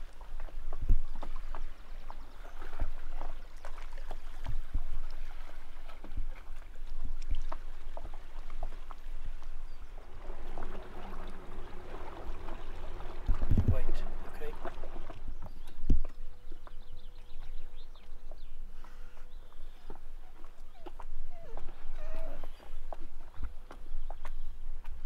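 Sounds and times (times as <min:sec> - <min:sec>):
water splashing around boat: 0:00.0 - 0:25.0.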